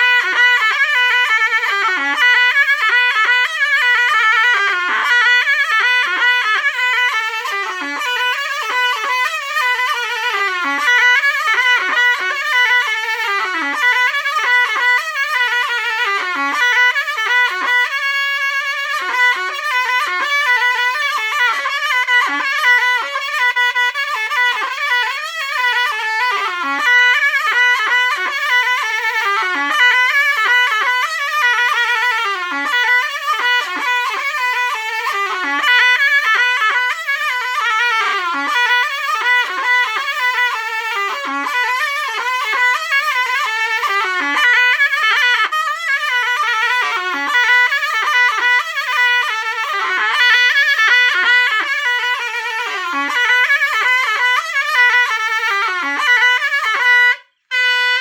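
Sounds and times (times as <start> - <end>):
zurna playing folk melody: 0.0 - 58.0.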